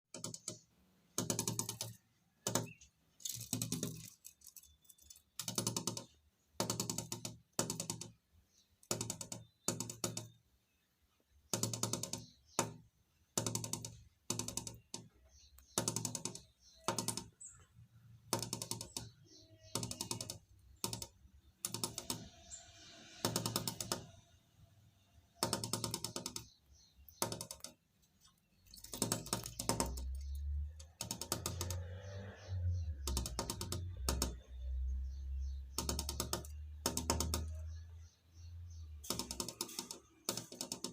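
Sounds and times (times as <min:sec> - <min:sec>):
bird tapping on window glass: 0:00.1 - 0:40.9.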